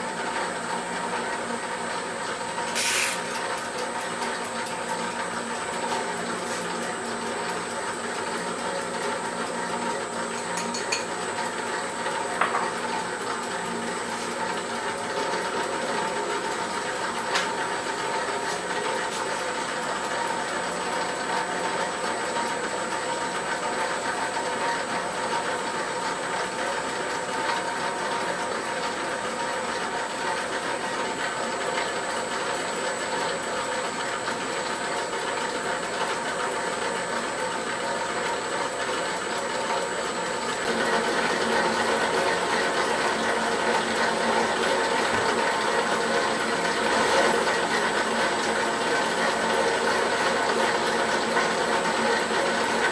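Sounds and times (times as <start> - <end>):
dough mixer whirring: 0.0 - 52.9.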